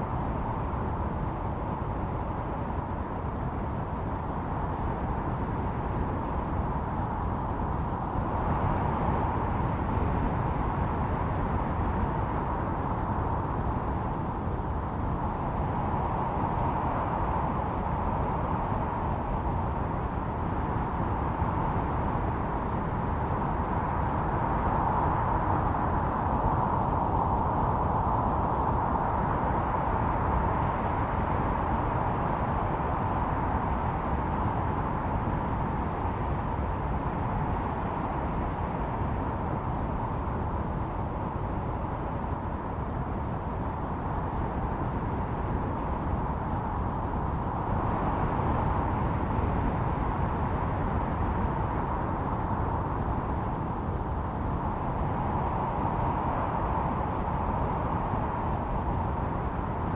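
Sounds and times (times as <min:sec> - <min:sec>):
blizzard wind howling: 0:00.0 - 0:59.9.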